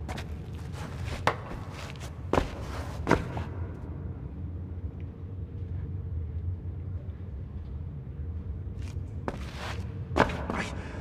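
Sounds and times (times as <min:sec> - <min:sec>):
low rumbling cavern drone: 0:00.0 - 0:11.0.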